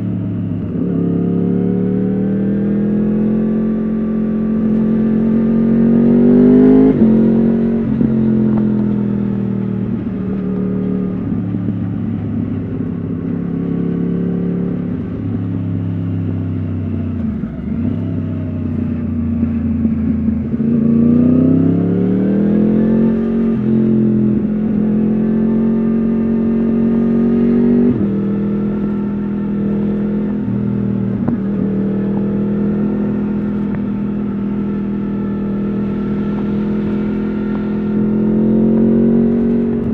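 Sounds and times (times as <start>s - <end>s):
motorcycle engine while riding: 0.0s - 39.9s
gear change: 0.4s - 39.9s.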